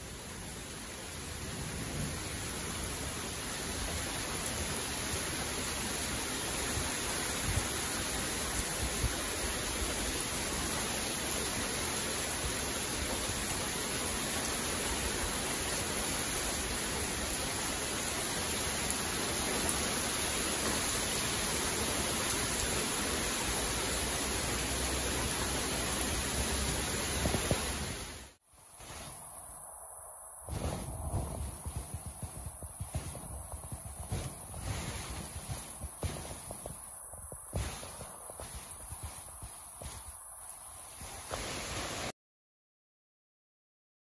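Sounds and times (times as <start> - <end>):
heavy rain on foliage: 0.0 - 42.1.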